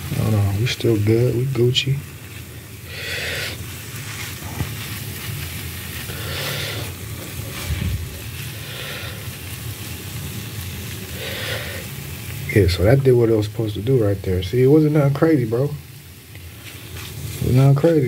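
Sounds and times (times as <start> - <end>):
noodles sizzling on a griddle: 0.0 - 18.0.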